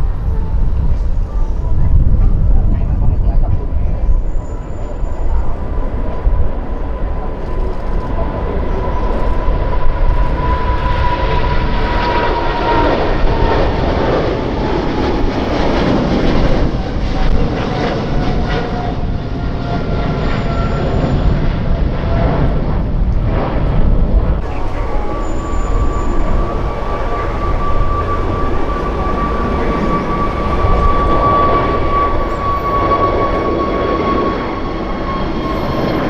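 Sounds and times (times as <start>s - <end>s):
jet airliner engines passing: 0.0s - 36.0s.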